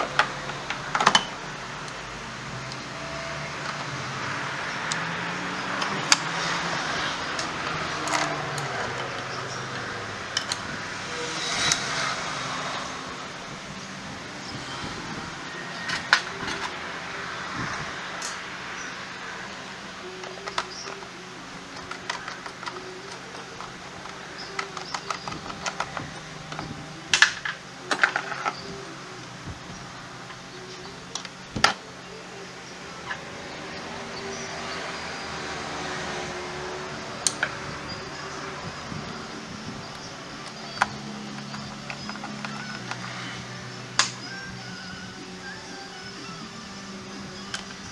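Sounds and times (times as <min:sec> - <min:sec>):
sharp metallic clicks: 0:00.0 - 0:47.9.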